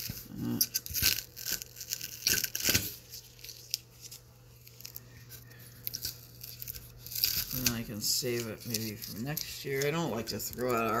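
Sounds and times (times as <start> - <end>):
tape peeling off paper: 0.0 - 11.0.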